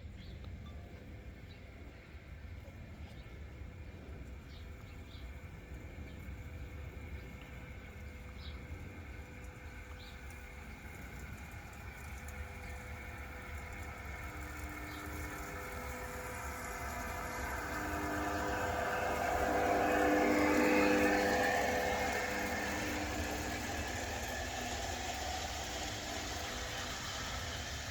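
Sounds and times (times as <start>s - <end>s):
model locomotive running sounds: 0.0s - 27.9s
wheels rumbling on track: 0.0s - 27.9s.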